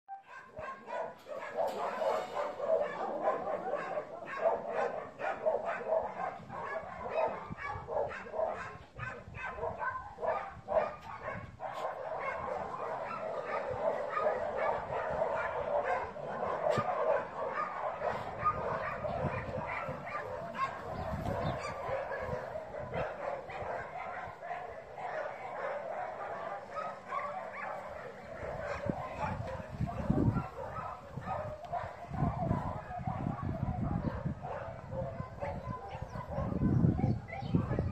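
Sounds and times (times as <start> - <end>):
dog barking: 0.1 - 37.9.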